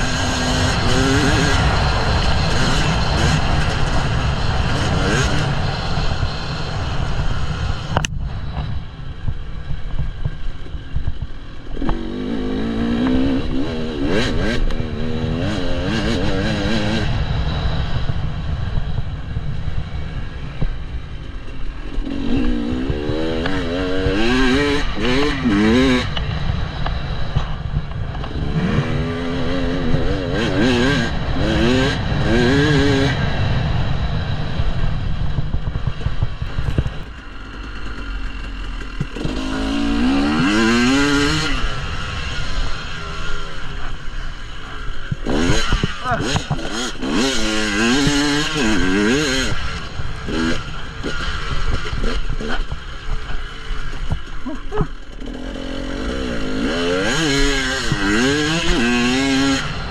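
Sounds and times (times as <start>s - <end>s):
two-stroke engine revving: 0.0s - 8.1s, 11.1s - 18.1s, 21.3s - 34.7s, 35.4s - 59.9s
steady low rumble: 0.0s - 56.7s.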